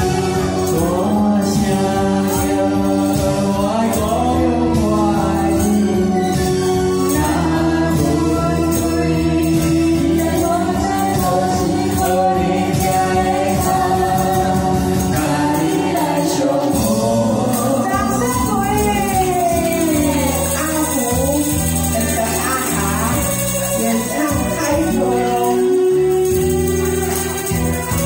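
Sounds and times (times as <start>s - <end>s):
man and woman singing duet: 0.0s - 26.6s
karaoke backing track: 0.0s - 28.0s
tambourine jingling: 0.0s - 28.0s.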